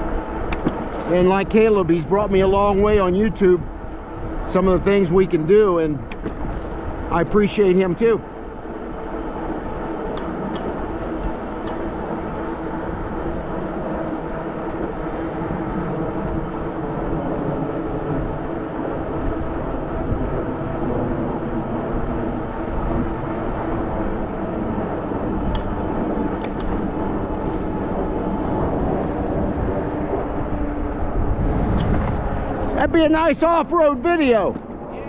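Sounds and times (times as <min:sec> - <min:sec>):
tyre and drivetrain hum: 0:00.0 - 0:35.0
wind rushing over microphone: 0:00.0 - 0:35.0.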